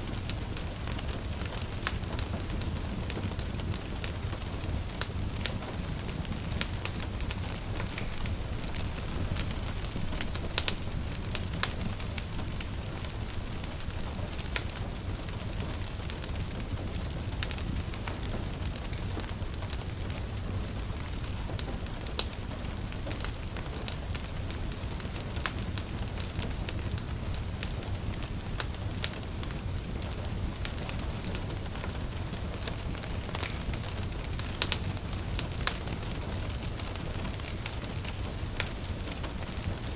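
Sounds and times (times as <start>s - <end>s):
gentle rain patter: 0.0s - 39.9s
wood fire crackling: 0.0s - 39.9s.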